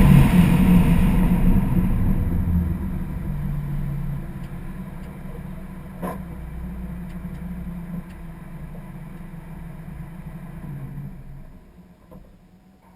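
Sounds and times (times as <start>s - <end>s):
muffled car engine running: 0.0s - 12.9s.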